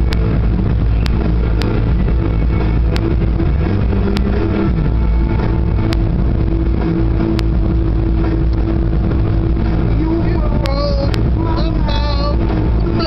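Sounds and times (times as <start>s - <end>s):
music playing: 0.0s - 13.0s
road and engine rumble: 0.0s - 13.0s.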